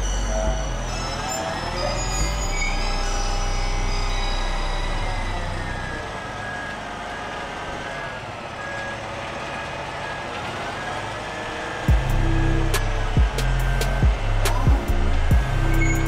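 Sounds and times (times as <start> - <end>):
hydraulics whining: 0.0 - 16.0
truck engine under load: 0.0 - 16.0.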